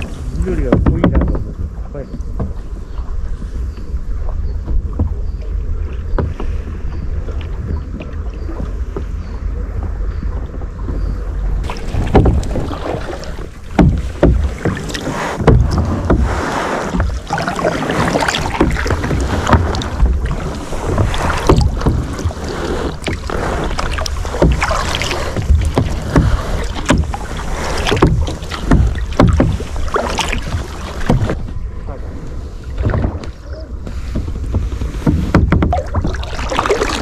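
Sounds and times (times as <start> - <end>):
paddle splashing in water: 0.0 - 37.0
water sloshing along hull: 0.0 - 37.0
wind rumble on microphone: 0.0 - 37.0.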